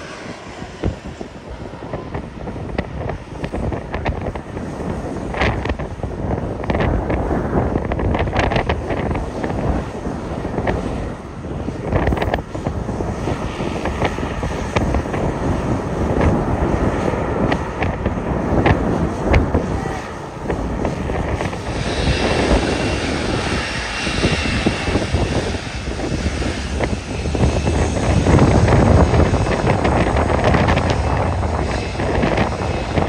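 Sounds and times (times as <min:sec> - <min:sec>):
jet engines running: 0:00.0 - 0:33.0
wind buffeting microphone: 0:00.0 - 0:33.0.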